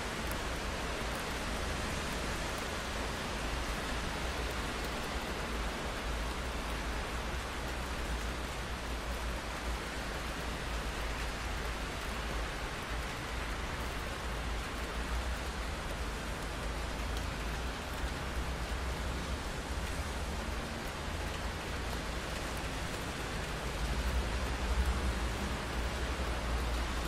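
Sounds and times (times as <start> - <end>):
rain on a window: 0.0 - 27.0.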